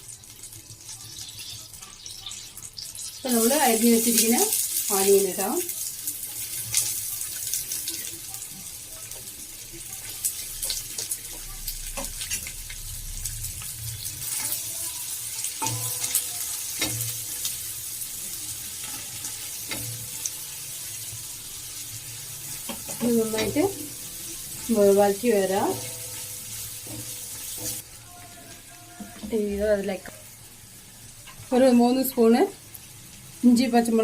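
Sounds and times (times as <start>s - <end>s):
onions sizzling in oil: 0.0s - 34.0s.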